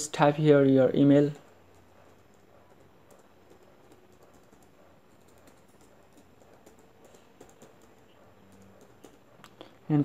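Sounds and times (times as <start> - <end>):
keyboard typing: 0.5 - 9.8.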